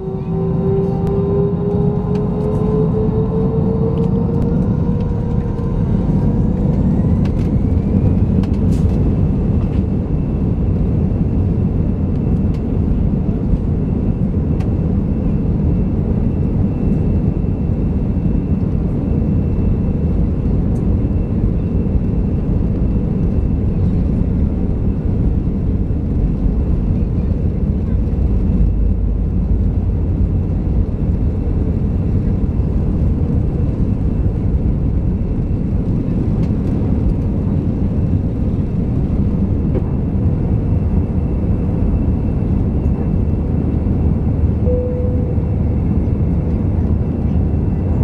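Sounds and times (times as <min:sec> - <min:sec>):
jet engine whine rising: 0:00.0 - 0:48.0
loud engine rumble: 0:00.0 - 0:48.0.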